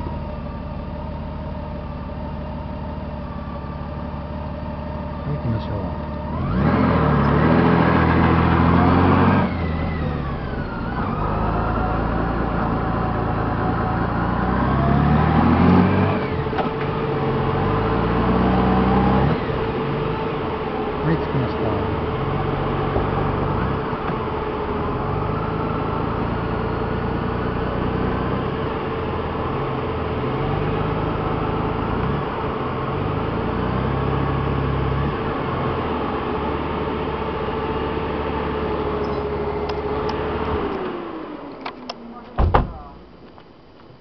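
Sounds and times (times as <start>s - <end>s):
vehicle engine idling: 0.0s - 15.3s, 16.2s - 44.0s
constant whine: 0.0s - 44.0s.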